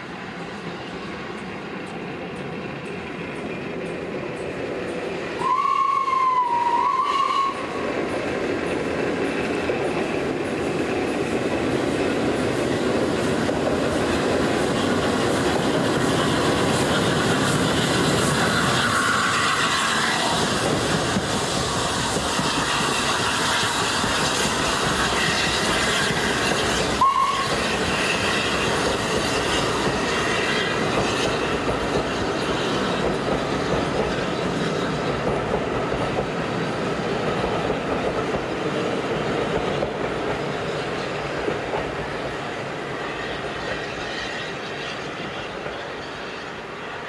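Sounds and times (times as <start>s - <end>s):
train wheels clattering on rails: 0.0s - 47.0s.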